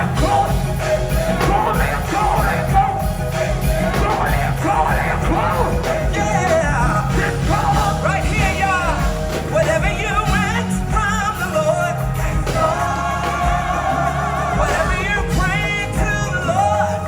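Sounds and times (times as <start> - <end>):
gospel choir singing: 0.0 - 17.0
live band playing: 0.0 - 17.0.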